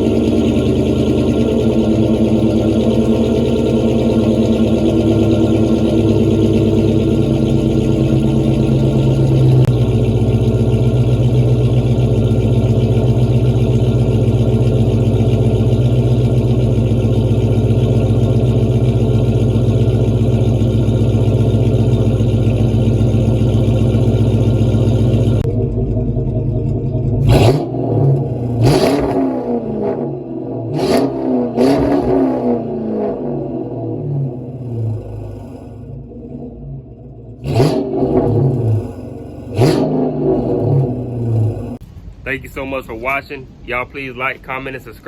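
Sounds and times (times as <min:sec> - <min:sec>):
engine revving: 0:00.0 - 0:41.9
car engine idling: 0:00.0 - 0:45.0.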